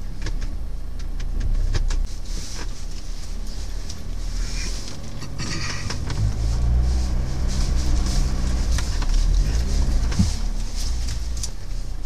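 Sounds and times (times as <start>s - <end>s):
off-road vehicle engine running: 0.0s - 12.0s
grass and twigs scraping bodywork: 2.0s - 12.0s.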